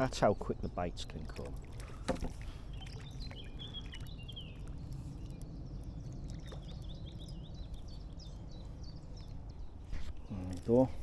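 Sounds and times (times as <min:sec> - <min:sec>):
small birds twittering: 0:00.0 - 0:11.0.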